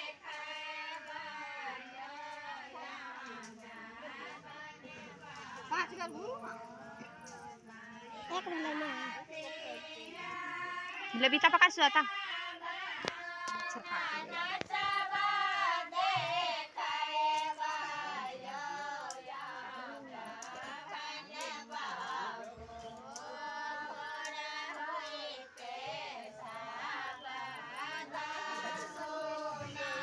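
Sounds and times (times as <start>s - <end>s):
women singing together: 0.0s - 30.0s.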